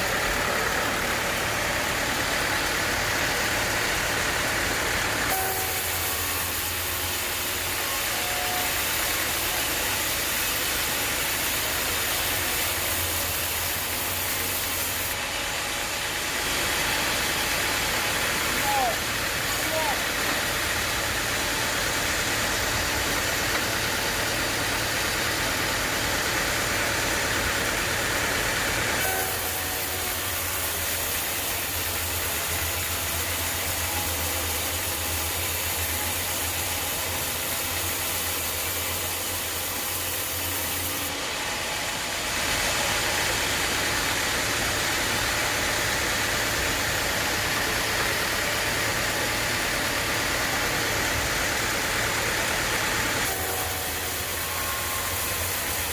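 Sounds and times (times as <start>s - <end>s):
band sawmill running: 0.0s - 55.9s.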